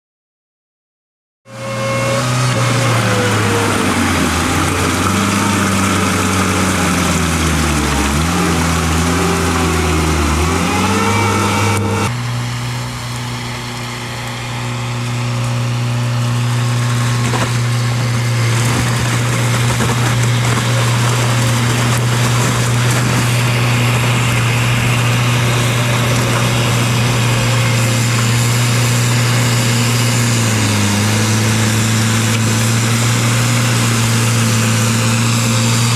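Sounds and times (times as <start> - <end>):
tracked vehicle engine running: 1.5 - 35.9.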